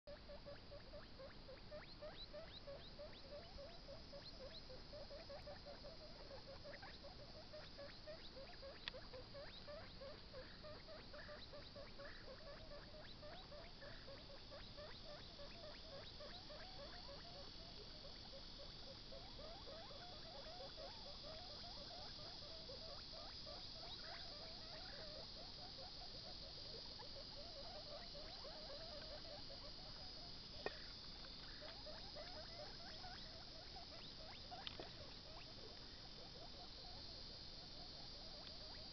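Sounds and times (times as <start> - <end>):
guinea pig chewing carrot: 0.1 - 38.8.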